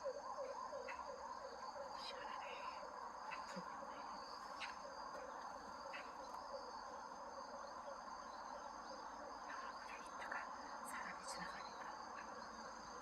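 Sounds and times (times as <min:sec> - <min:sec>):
crickets chirring: 0:00.0 - 0:13.0
low background hiss: 0:00.3 - 0:13.0.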